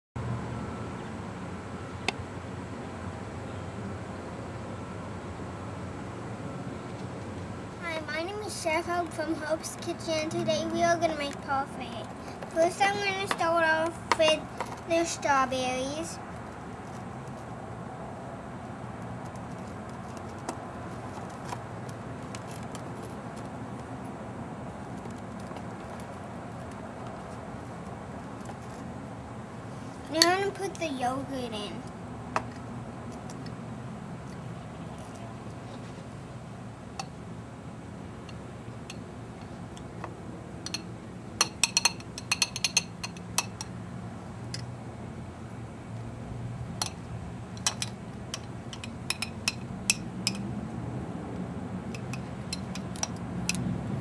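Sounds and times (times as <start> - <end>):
steady low hum: 0.2 - 54.0.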